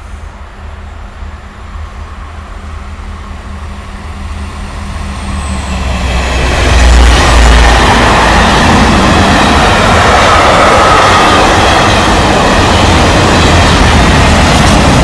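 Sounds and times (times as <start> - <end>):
locomotive engine drone: 0.0 - 15.0
train wheels on rails: 0.0 - 15.0.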